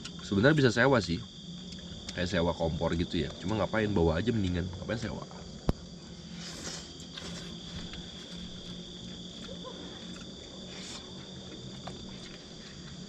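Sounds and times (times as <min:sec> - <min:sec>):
crickets trilling: 0:00.0 - 0:13.0
faint low hum: 0:00.0 - 0:13.0.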